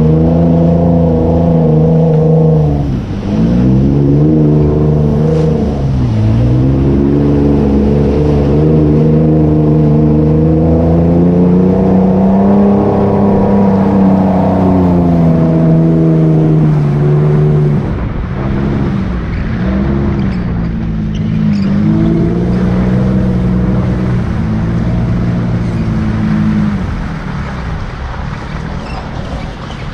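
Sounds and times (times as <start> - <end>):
engine pulling through mud: 0.0 - 29.9
muddy water splashing: 0.0 - 29.9.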